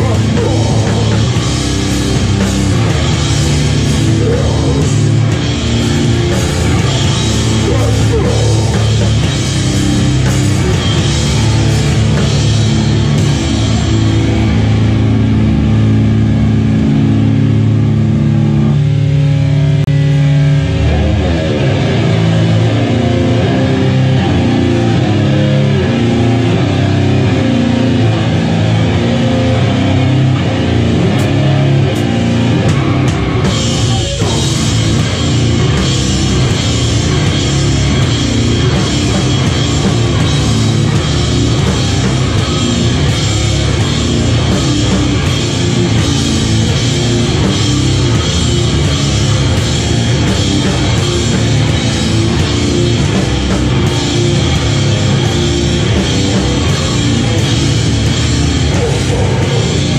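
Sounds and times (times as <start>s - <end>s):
distorted electric guitar riffing: 0.0s - 59.9s
drum kit: 0.0s - 59.9s.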